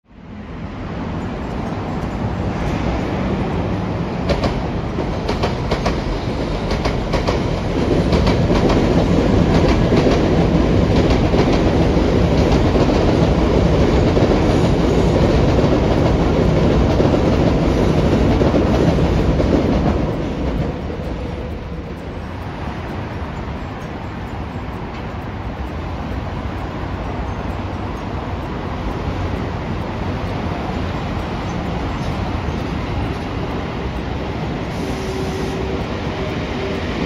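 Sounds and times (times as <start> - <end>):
train rumble: 0.1 - 37.0
train wheels clicking over rails: 0.4 - 37.0.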